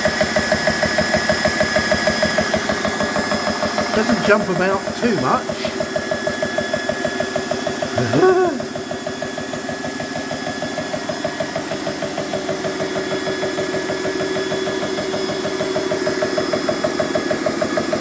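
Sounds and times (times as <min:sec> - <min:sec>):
air compressor pumping: 0:00.0 - 0:18.0.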